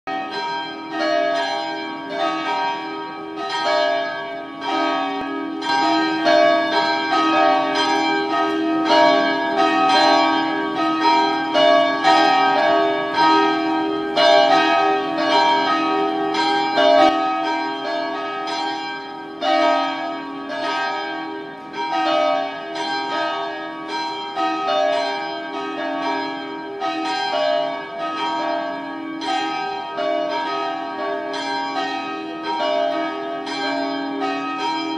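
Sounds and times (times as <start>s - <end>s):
church bells pealing: 0.1s - 34.9s.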